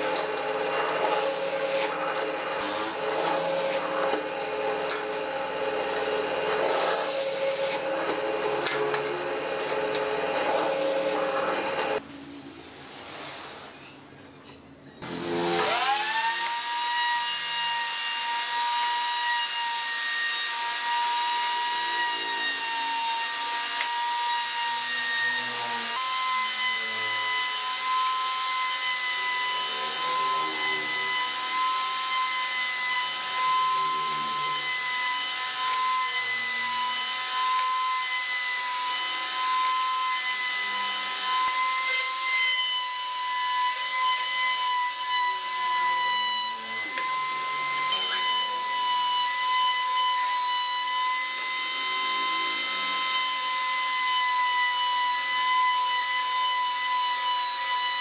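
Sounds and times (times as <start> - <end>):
router bit cutting wood: 0.0 - 12.0, 15.0 - 58.0
wood router high whine: 0.0 - 12.0, 15.0 - 58.0.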